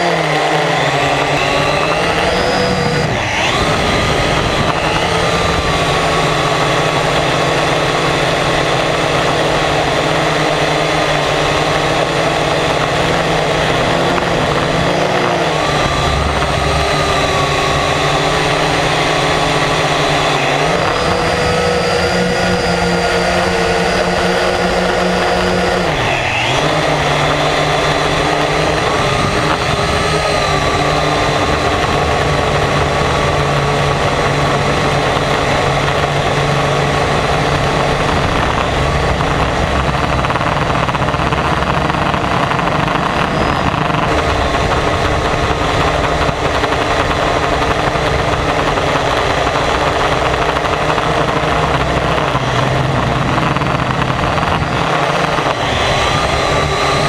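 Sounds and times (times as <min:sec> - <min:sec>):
drone motors whirring: 0:00.0 - 0:57.0.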